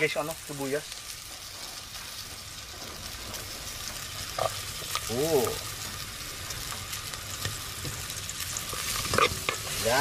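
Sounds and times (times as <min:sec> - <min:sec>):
onions sizzling in a pot: 0:00.0 - 0:10.0.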